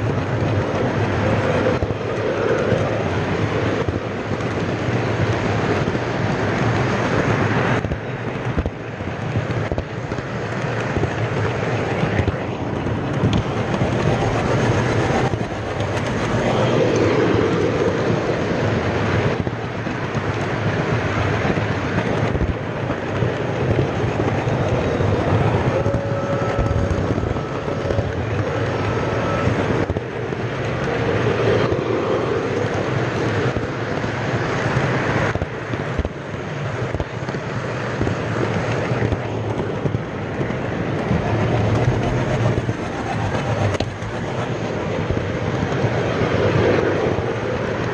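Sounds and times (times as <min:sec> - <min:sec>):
model train wheels rumbling: 0:00.0 - 0:47.9.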